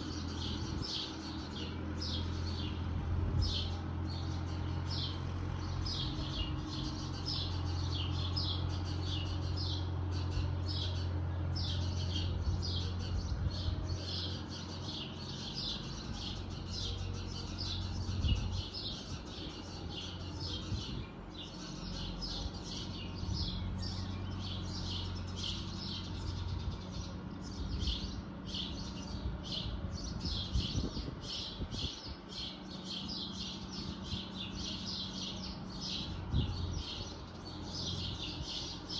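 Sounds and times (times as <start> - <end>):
birds chirping: 0.0 - 38.9
distant tractor diesel engine drone: 0.0 - 38.9.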